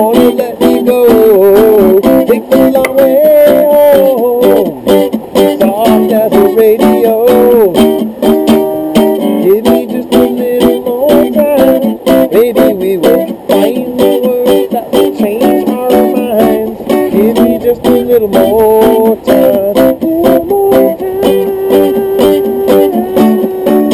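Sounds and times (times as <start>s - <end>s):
plucked guitar melody: 0.0s - 23.9s.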